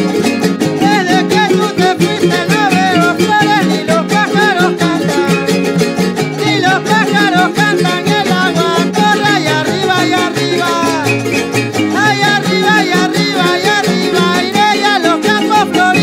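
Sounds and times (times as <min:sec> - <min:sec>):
latin song with singer: 0:00.0 - 0:16.0.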